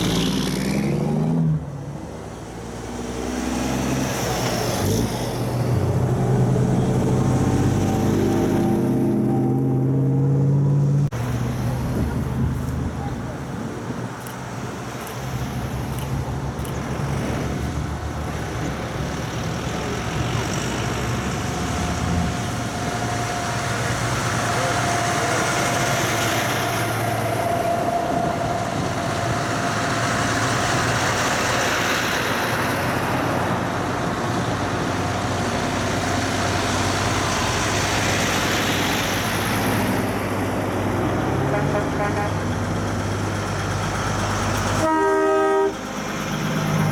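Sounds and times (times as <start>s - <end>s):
diesel trucks driving past: 0.0s - 46.9s
tyre and road noise: 0.0s - 46.9s.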